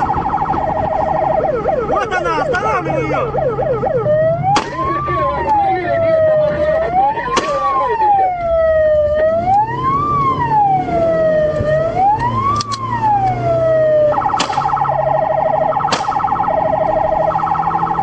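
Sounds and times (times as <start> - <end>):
car engine running: 0.0 - 18.0
police siren: 0.0 - 18.0.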